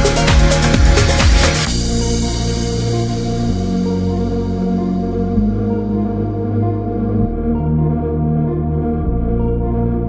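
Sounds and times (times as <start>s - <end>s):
slow sustained chords: 0.0s - 10.0s.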